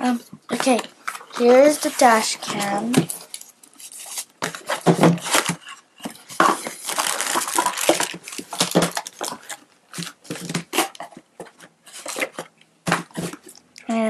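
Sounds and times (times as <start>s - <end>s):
plastic and cardboard crinkling: 0.0s - 13.6s.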